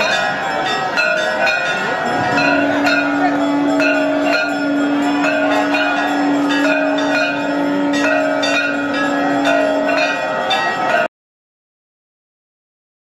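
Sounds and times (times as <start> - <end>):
temple bells ringing: 0.0 - 11.1
steady held tone: 0.6 - 11.1.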